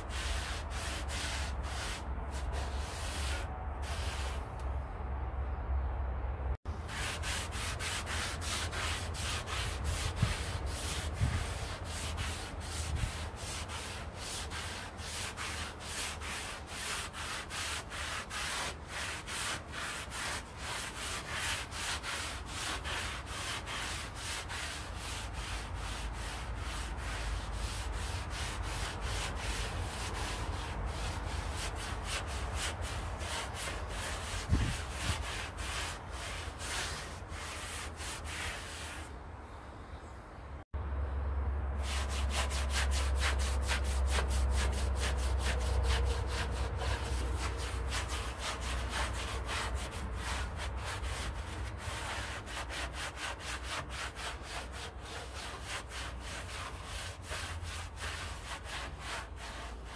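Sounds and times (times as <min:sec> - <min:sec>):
hand rubbing a surface: 0:00.0 - 0:04.6, 0:06.8 - 0:39.2, 0:41.8 - 0:59.9.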